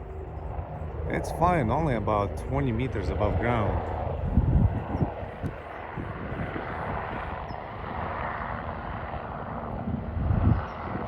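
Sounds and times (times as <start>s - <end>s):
helicopter flying overhead: 0.0s - 11.0s.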